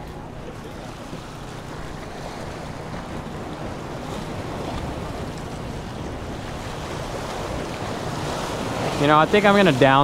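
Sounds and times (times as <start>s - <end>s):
waves washing against rocks: 1.0s - 10.0s.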